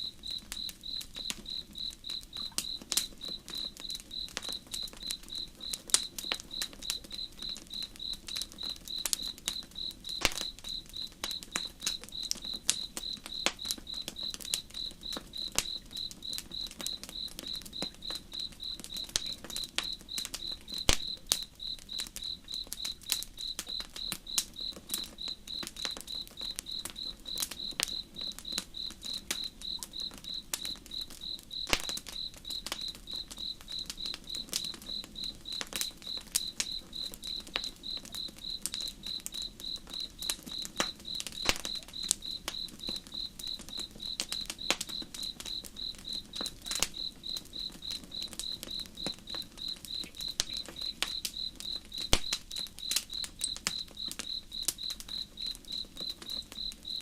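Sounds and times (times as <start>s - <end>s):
campfire crackling and popping: 0.0s - 57.0s
cricket chirping: 0.0s - 57.0s.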